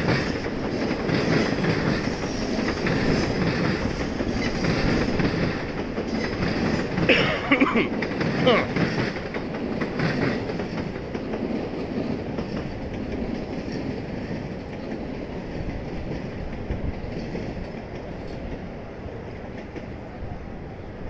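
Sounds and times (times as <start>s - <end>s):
train wheels on track: 0.0s - 21.0s.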